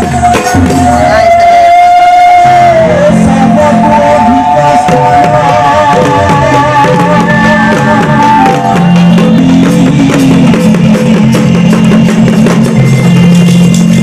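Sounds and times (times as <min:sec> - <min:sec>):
steady drum beats: 0:00.0 - 0:14.0
sustained low instrumental tones: 0:00.0 - 0:14.0.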